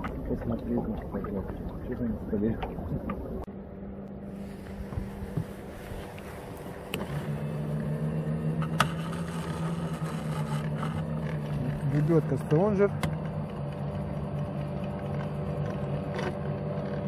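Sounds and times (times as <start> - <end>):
anchor winch humming: 0.0 - 17.0.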